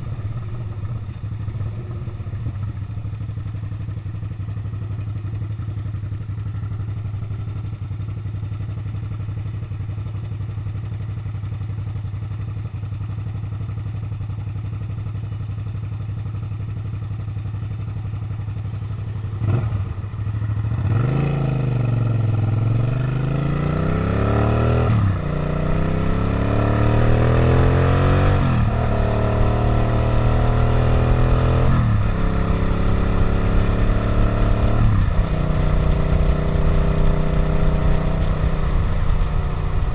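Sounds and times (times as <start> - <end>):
motorcycle engine idling and accelerating: 0.0 - 39.9.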